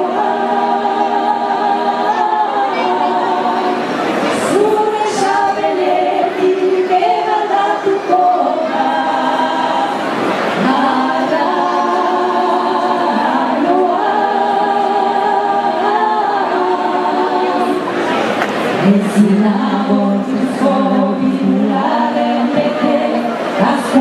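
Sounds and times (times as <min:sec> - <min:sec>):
choir singing in harmony: 0:00.0 - 0:24.0.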